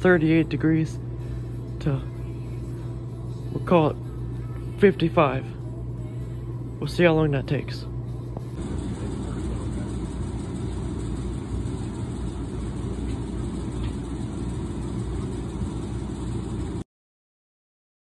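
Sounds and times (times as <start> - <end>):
furnace burner and blower rumbling: 0.0 - 16.8.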